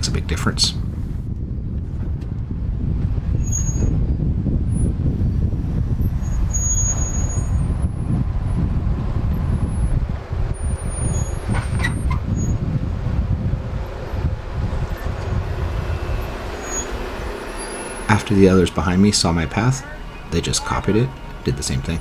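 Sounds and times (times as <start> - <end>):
engine low rumble: 0.0 - 22.0.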